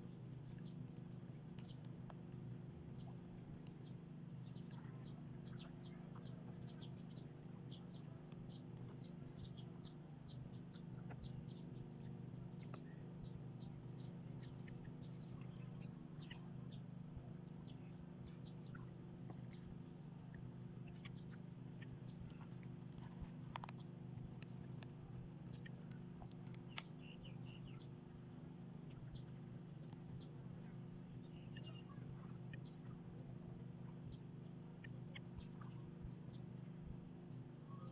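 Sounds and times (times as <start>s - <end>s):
faint low hum: 0.0s - 37.9s
small birds chirping: 0.0s - 37.9s.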